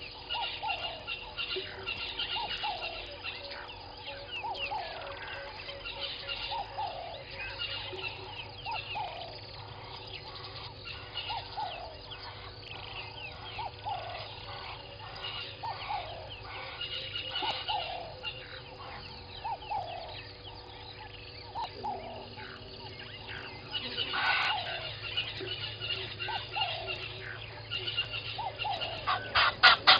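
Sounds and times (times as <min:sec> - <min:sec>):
birds chirping and trilling: 0:00.0 - 0:29.9
faint hum: 0:00.0 - 0:29.9.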